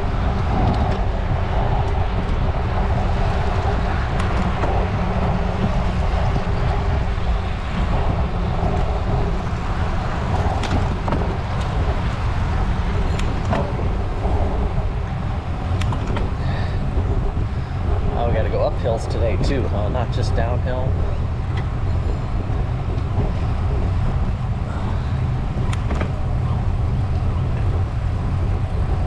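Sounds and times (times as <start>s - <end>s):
bicycle road noise: 0.0s - 29.0s
wind buffeting microphone: 0.0s - 29.0s.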